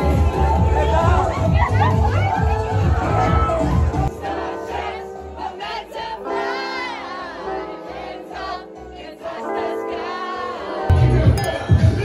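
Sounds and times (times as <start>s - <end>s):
song with sung vocals: 0.0s - 12.0s.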